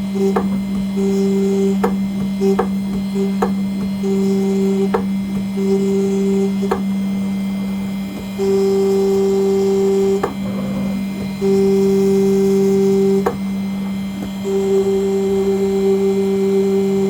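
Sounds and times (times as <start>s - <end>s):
motor whine: 0.0s - 17.0s
steady low hum: 0.0s - 17.0s.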